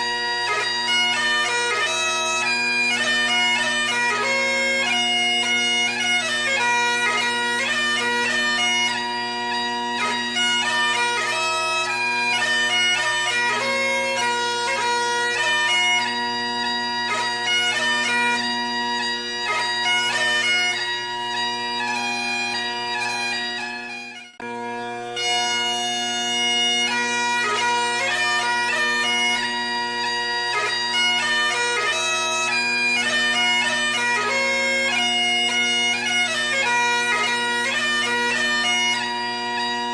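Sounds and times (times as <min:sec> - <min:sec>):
bagpipe music with drones: 0:00.0 - 0:39.9.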